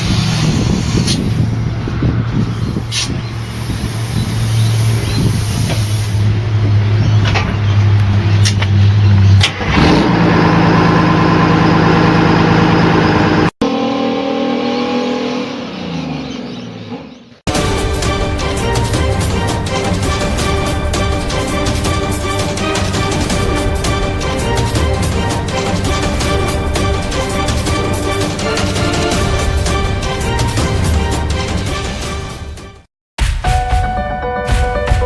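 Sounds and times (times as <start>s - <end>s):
large vehicle engine running: 0.0s - 14.2s, 17.5s - 32.0s.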